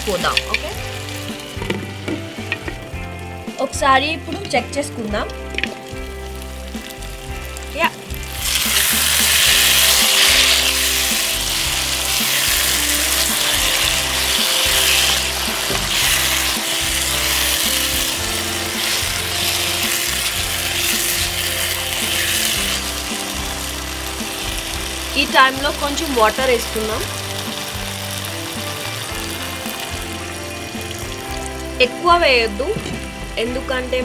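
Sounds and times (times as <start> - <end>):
potatoes sizzling in a pan: 0.0 - 34.0
quiet background music: 0.0 - 34.0.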